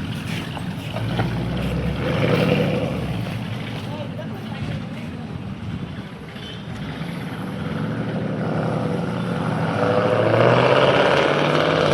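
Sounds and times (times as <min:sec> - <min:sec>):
road noise: 0:00.0 - 0:11.9.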